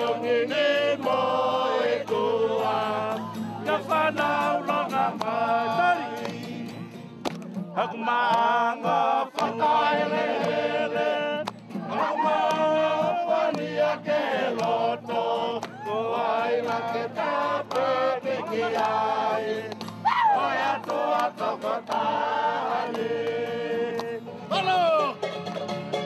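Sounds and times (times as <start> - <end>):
choir singing: 0.0 - 6.8, 7.7 - 24.4.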